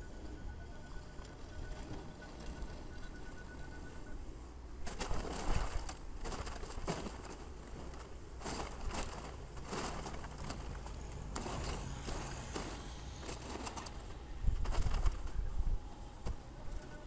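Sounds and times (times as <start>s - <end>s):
excavator low hum: 0.0s - 17.0s.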